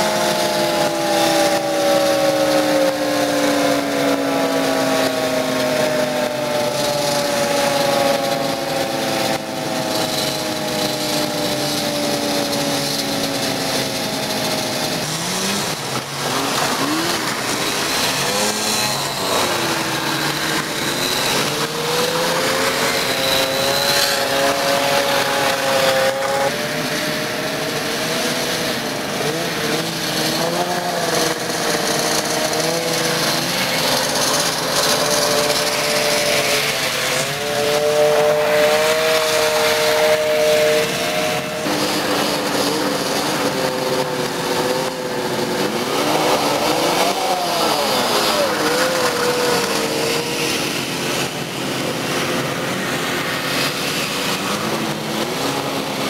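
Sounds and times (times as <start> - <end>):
two-stroke snowmobile engines: 0.0 - 56.0.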